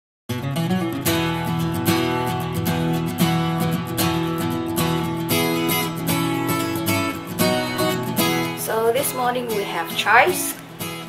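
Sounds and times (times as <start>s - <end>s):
strummed guitar music: 0.3s - 11.0s.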